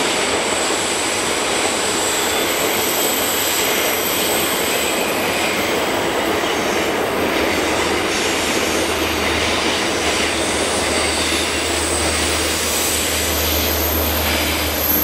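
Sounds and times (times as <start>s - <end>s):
train carriages rolling on rails: 0.0s - 15.0s.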